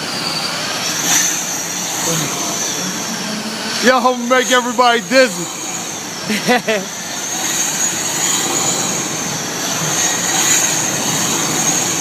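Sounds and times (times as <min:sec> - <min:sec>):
continuous rushing noise: 0:00.0 - 0:12.0
radio-controlled car motor whine: 0:00.0 - 0:12.0.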